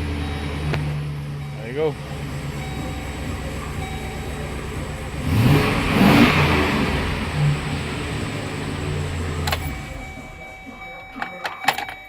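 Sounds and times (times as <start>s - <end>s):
car engine revving and running: 0.0s - 12.0s.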